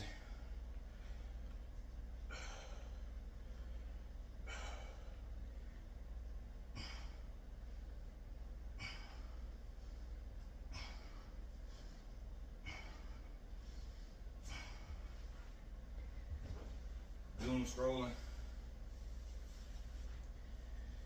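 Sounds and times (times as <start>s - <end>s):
man breathing heavily: 0.0s - 21.0s
steady low hum: 0.0s - 21.0s.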